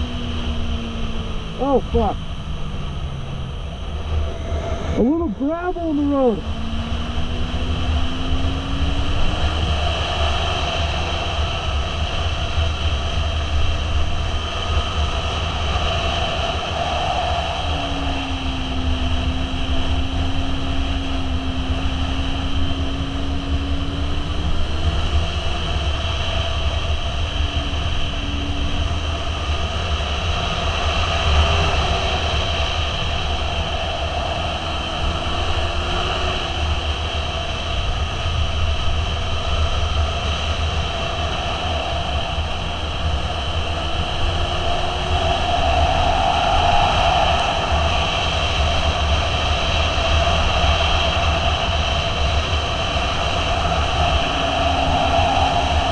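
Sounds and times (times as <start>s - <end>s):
motorcycle engine: 0.0s - 55.9s
wind rumble on microphone: 0.0s - 55.9s.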